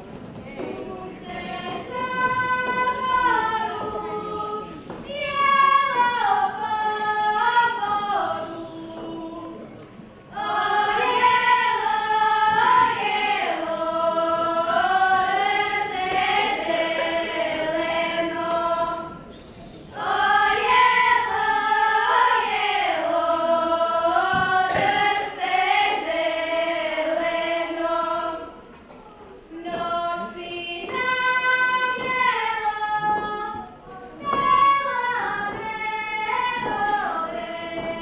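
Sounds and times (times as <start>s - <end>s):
women singing unaccompanied: 0.4s - 38.0s.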